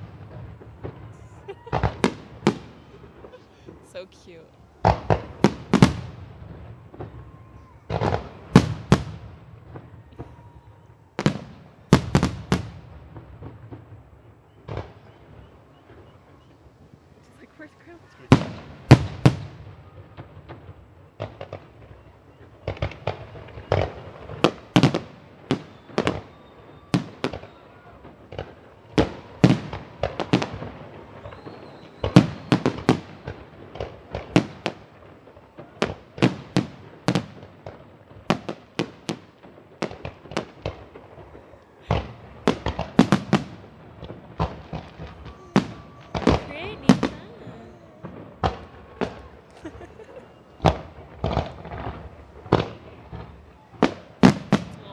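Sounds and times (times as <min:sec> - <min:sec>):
fireworks bangs and pops: 0:00.0 - 0:54.9.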